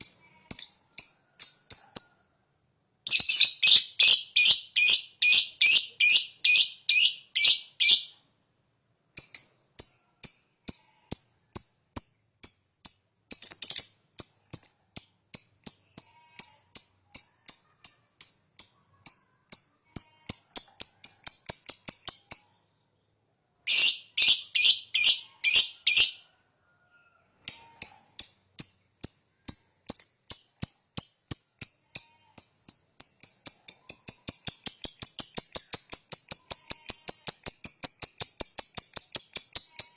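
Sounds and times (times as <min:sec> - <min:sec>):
lovebird chattering song: 0:03.1 - 0:08.1, 0:09.2 - 0:22.6, 0:23.7 - 0:26.2, 0:27.4 - 0:39.9.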